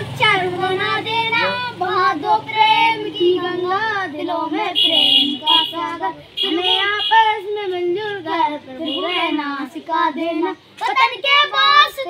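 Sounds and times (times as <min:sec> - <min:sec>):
child singing a prayer: 0:00.0 - 0:12.0.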